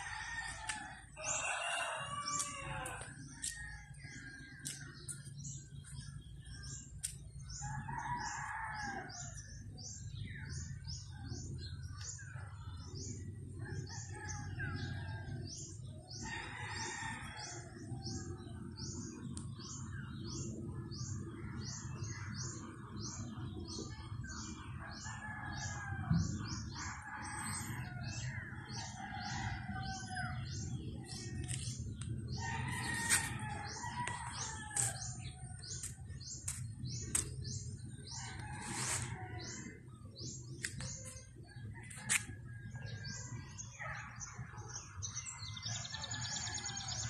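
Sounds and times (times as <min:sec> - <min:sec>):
birds chirping: 0:00.0 - 0:47.0
steady low rumble: 0:02.0 - 0:45.9.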